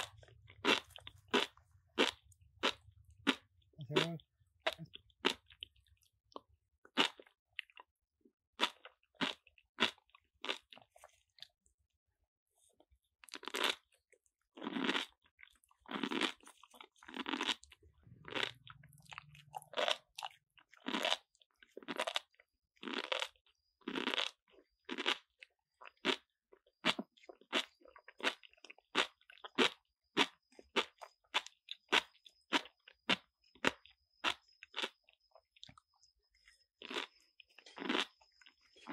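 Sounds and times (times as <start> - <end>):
monkeys crunching cucumber: 0.0 - 7.9, 8.6 - 11.6, 13.2 - 35.9, 36.7 - 38.9.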